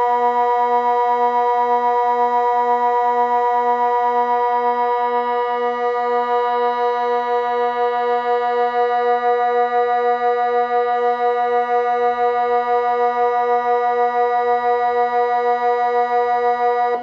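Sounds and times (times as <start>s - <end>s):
siren long low tone: 0.1s - 17.0s.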